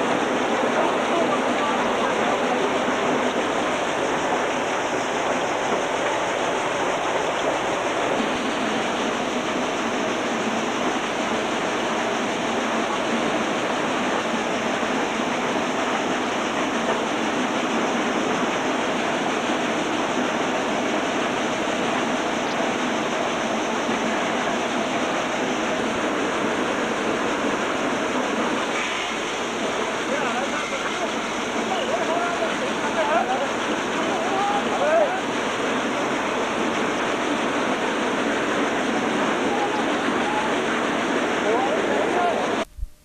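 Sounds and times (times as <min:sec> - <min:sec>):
thresher running: 0:00.0 - 0:42.7.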